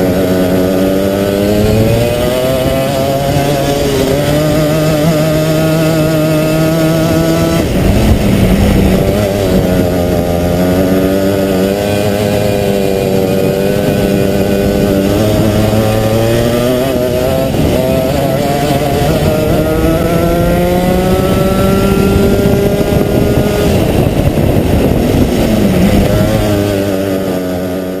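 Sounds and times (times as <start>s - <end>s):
kart engines revving: 0.0s - 28.0s.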